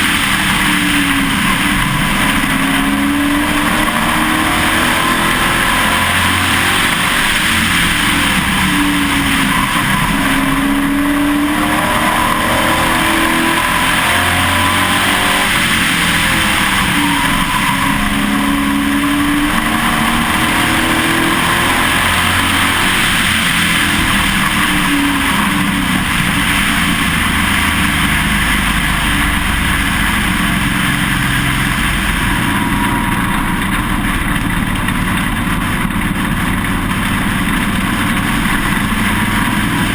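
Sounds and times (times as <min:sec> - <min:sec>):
race truck engine revving: 0:00.0 - 0:39.9.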